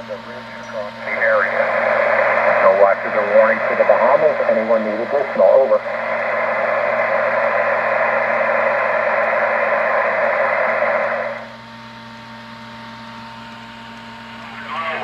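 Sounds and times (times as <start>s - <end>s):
radio static hiss: 0.0s - 11.5s, 14.3s - 15.0s.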